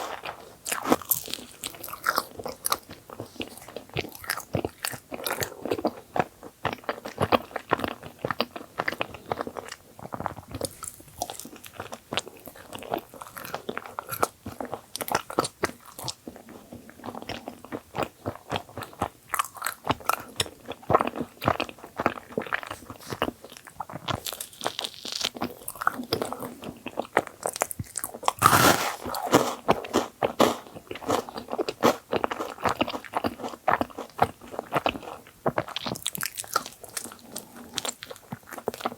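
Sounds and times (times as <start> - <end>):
person chewing bread: 0.0 - 38.9.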